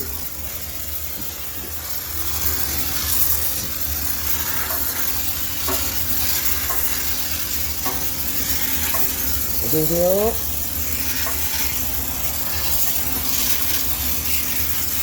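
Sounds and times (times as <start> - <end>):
steam cleaner hissing: 0.0 - 15.0.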